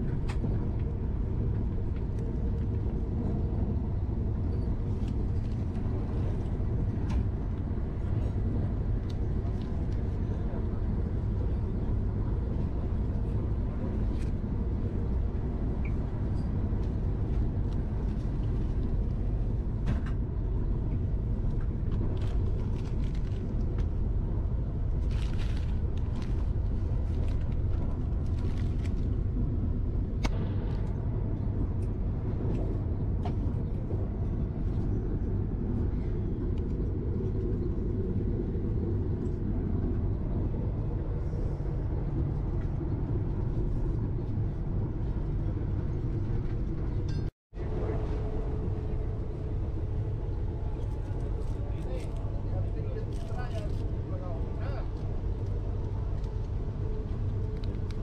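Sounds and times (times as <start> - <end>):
train rumble inside coach: 0.0 - 58.0.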